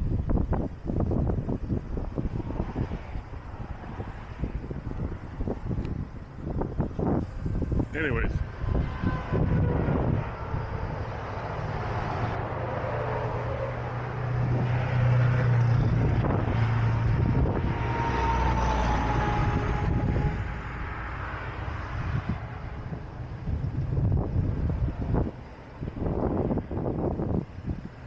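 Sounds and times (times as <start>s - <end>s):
heavy truck engines droning: 0.0s - 28.0s.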